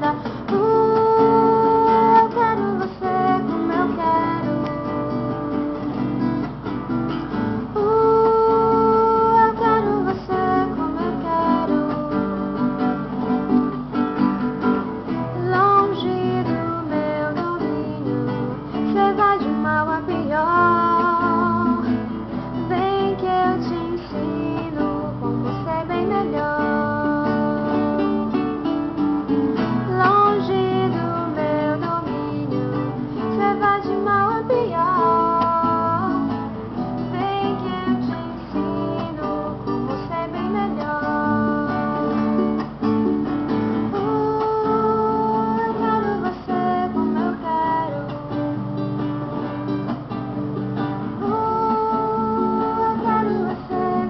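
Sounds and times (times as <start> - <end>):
acoustic guitar strummed and plucked: 0.0 - 54.0.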